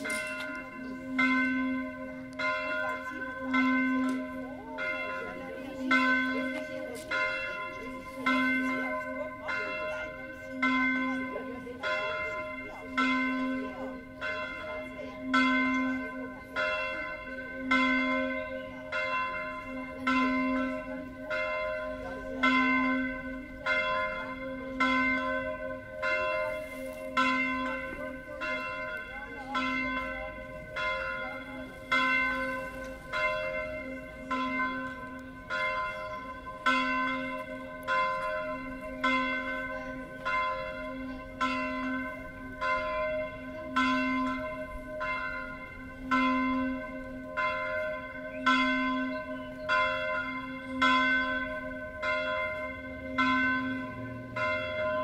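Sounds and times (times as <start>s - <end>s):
church bell ringing: 0.0s - 55.0s.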